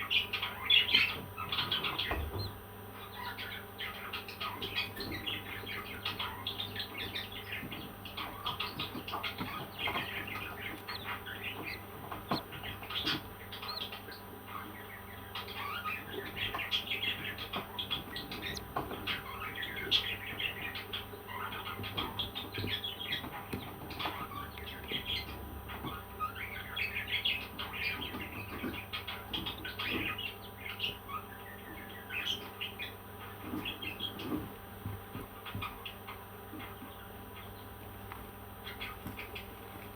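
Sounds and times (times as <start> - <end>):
faint steady hum: 0.0 - 39.9
parrots chirping and squawking: 0.1 - 34.5.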